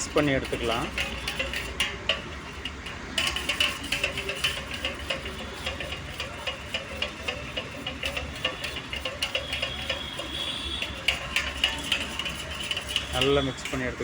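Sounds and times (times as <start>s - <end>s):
spoon scraping and clicking in bowl: 0.0s - 14.0s.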